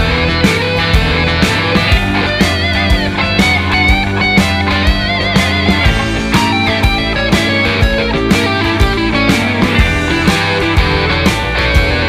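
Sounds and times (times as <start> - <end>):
distorted electric guitar: 0.0 - 12.0
steady drum beat: 0.0 - 12.0.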